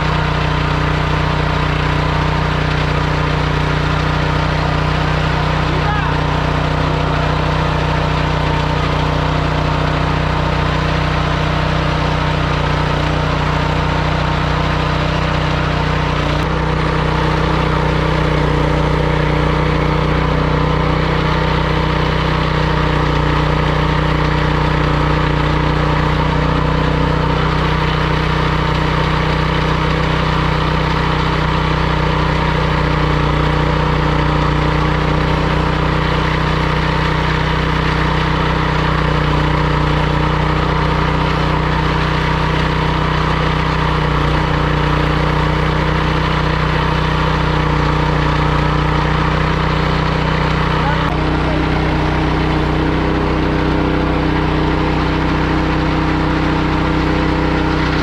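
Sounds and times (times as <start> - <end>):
meat grinder motor humming: 0.0 - 58.0.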